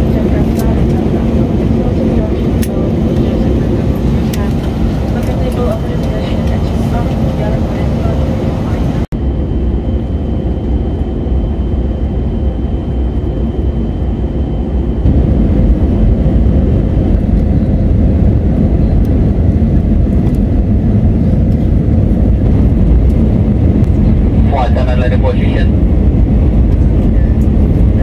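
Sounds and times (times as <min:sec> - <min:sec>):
airplane cabin roar: 0:00.0 - 0:28.0.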